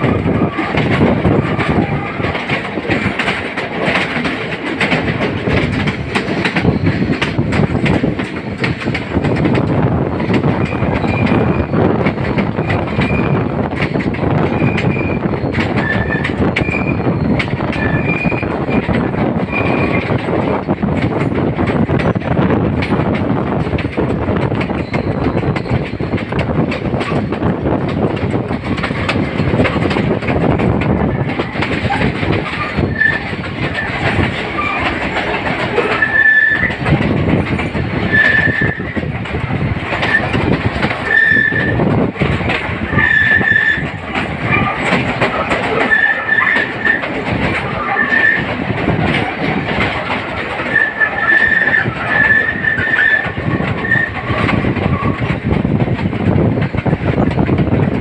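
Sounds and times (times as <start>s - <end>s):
train wheel squeals: 0.0s - 9.6s, 10.2s - 21.0s, 23.6s - 27.5s, 28.2s - 55.5s
train wheels clattering on rails: 0.0s - 58.0s.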